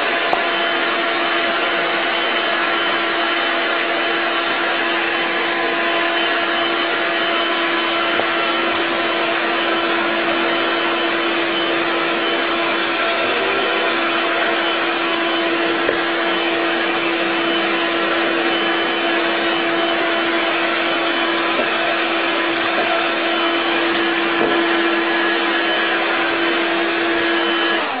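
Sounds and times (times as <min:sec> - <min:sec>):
stick vacuum cleaner running: 0:00.0 - 0:28.0.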